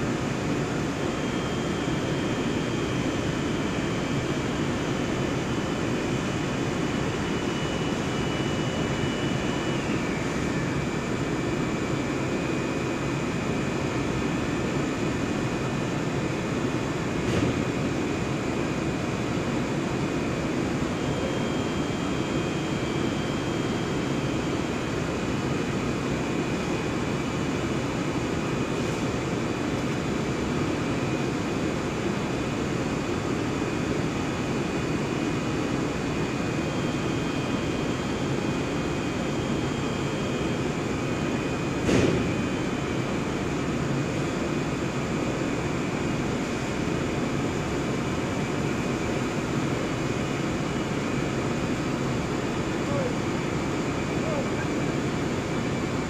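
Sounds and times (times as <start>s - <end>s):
faint high machine whines: 0.0s - 56.0s.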